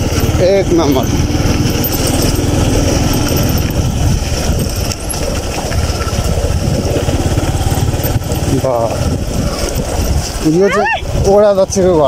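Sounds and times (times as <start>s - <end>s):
tyres on gravel: 0.0s - 11.2s
motorcycle engine running: 0.0s - 12.0s
wind noise on microphone: 0.0s - 12.0s.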